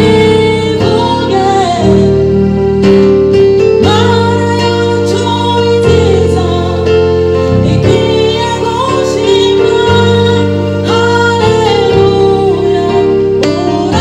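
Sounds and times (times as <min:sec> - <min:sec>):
woman singing: 0:00.0 - 0:02.4, 0:03.8 - 0:14.0
electronic keyboard chords: 0:00.0 - 0:14.0.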